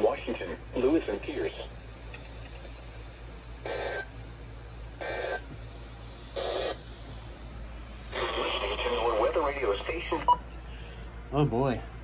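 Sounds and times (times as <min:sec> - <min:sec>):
digital data bursts from radio speaker: 0:00.0 - 0:10.4
low hum and hiss: 0:00.0 - 0:12.0.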